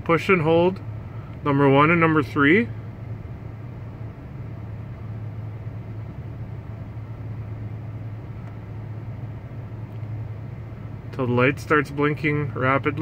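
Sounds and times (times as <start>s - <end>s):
car cabin engine drone: 0.0s - 13.0s.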